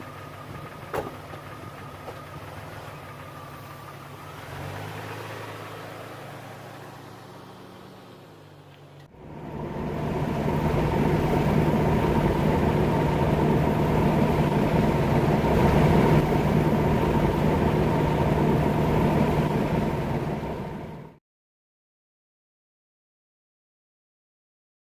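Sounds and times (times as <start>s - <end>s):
car engine running: 0.0s - 21.2s.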